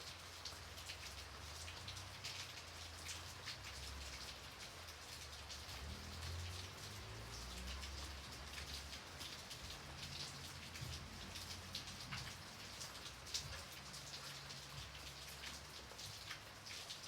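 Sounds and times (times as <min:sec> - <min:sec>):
gentle rain falling: 0:00.0 - 0:17.0
drops ticking on a surface: 0:00.4 - 0:17.0.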